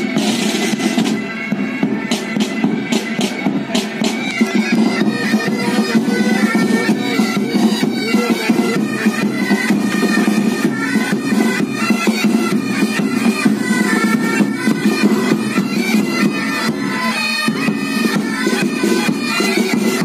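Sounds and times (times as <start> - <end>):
bagpipe drones: 0.0 - 20.0
bagpipes playing marching tune: 0.0 - 20.0
drums beating: 0.0 - 20.0.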